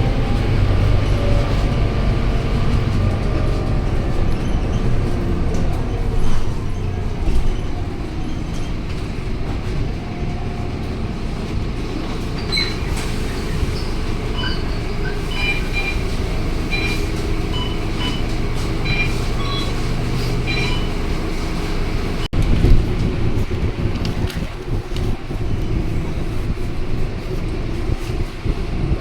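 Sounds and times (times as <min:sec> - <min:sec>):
bus engine and road drone: 0:00.0 - 0:29.0.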